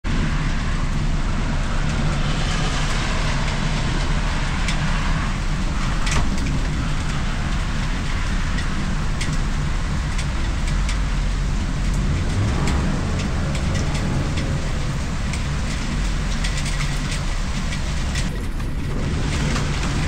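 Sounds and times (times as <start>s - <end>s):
low rumble: 0.0s - 20.0s
steady rain falling: 0.1s - 20.0s.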